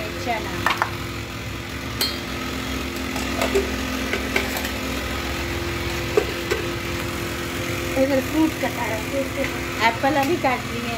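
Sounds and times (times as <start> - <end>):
small motor humming: 0.0 - 10.9.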